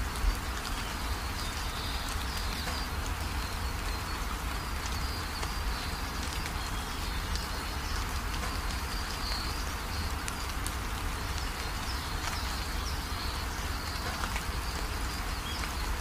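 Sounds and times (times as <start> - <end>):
rain on metal roof: 0.0 - 16.0
water pouring off roof: 0.0 - 16.0.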